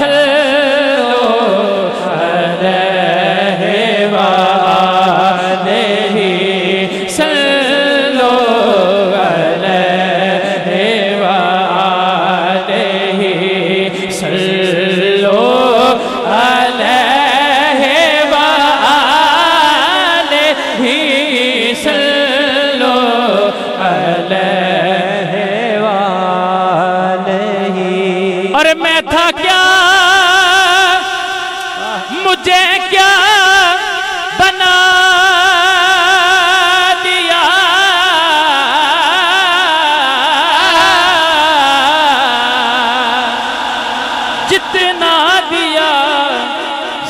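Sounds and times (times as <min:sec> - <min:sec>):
man singing into microphone: 0:00.0 - 0:47.0.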